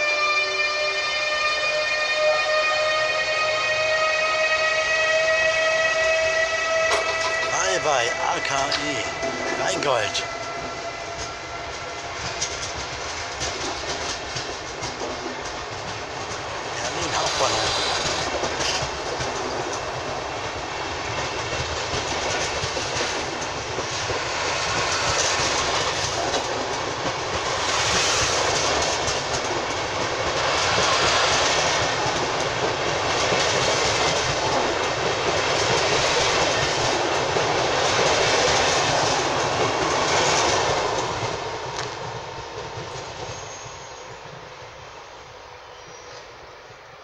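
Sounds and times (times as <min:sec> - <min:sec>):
train coaches rolling past: 0:00.0 - 0:47.0.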